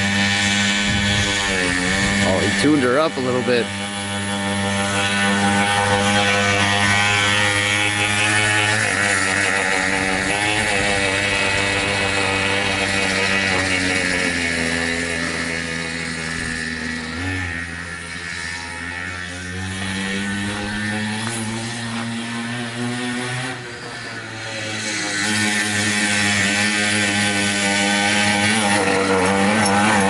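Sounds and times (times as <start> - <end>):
two-stroke engine running hard: 0.0 - 30.0.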